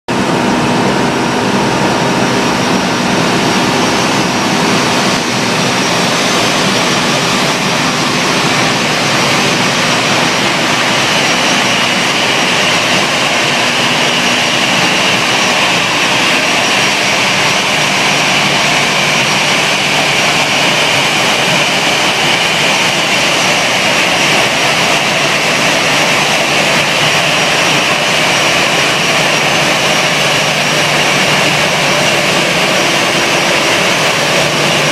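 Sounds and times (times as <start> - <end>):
jet engines running with whine: 0.1 - 34.9.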